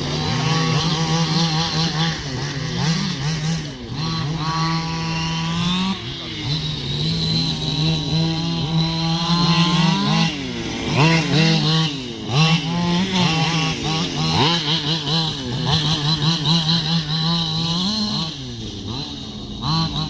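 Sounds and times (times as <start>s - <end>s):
steady high whine: 0.0s - 19.6s
rc car motors revving: 0.0s - 20.0s.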